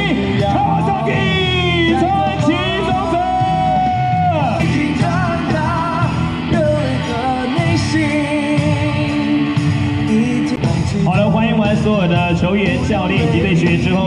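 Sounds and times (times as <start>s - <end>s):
full band accompaniment: 0.0s - 14.0s
person singing: 0.0s - 14.0s.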